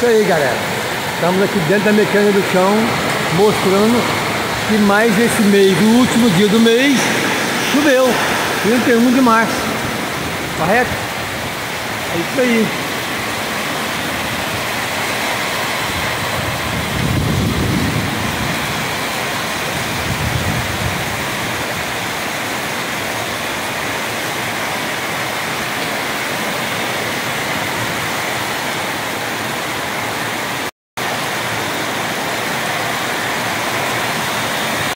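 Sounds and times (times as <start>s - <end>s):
heavy rain on metal roof: 0.0s - 34.9s.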